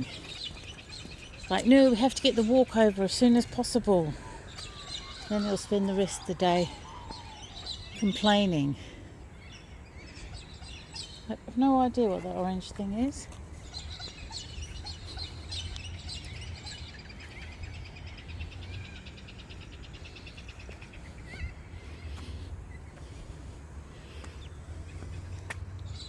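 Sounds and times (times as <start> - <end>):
birds chirping in chorus: 0.0 - 26.0.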